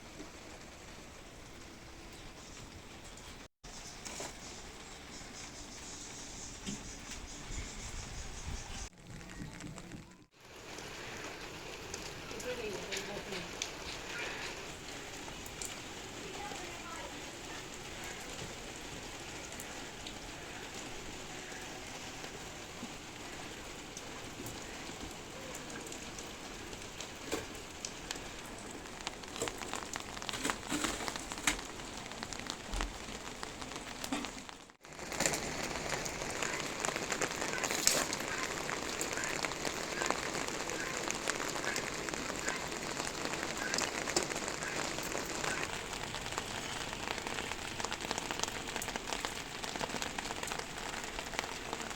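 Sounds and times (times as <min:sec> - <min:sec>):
rain pattering on surfaces: 0:00.0 - 0:51.9.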